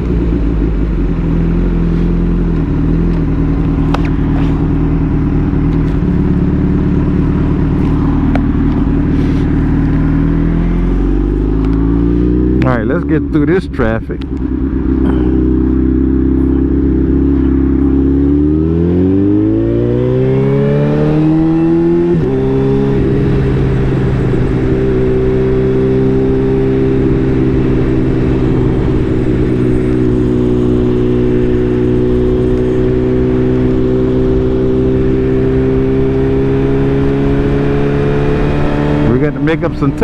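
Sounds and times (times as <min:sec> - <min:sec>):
motorcycle engine accelerating: 0:00.0 - 0:40.0
road and wind noise: 0:00.0 - 0:40.0.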